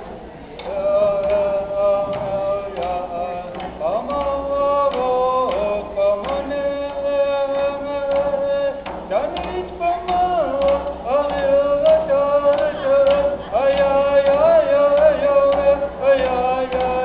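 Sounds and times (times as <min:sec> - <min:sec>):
frame drum strikes: 0:00.0 - 0:17.0
voices singing held notes: 0:00.6 - 0:17.0.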